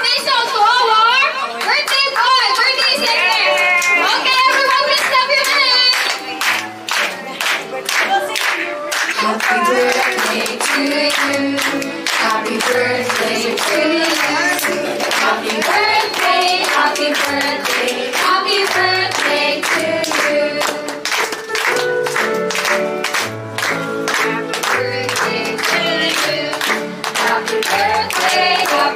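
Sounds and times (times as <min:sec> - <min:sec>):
people clapping along: 0:00.0 - 0:28.9
group singing birthday song: 0:04.1 - 0:21.7, 0:23.1 - 0:28.9.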